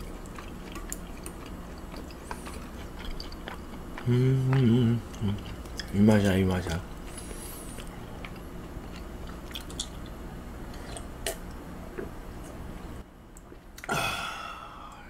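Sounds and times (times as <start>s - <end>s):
man chewing with wet mouth sounds: 0.0s - 12.6s.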